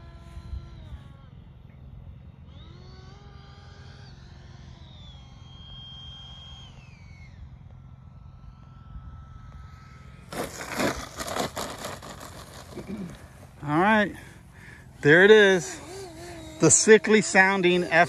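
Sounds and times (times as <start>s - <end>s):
electric ducted fan whining: 0.0s - 18.0s.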